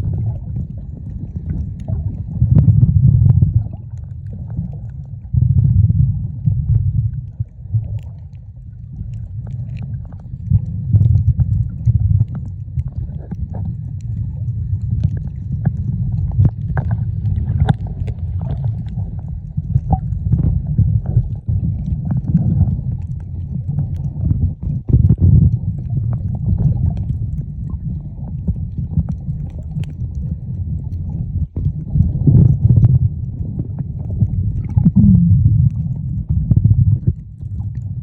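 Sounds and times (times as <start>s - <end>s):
underwater rumble of moving water: 0.0s - 38.0s
small clicks and pops: 0.1s - 2.8s, 7.0s - 38.0s.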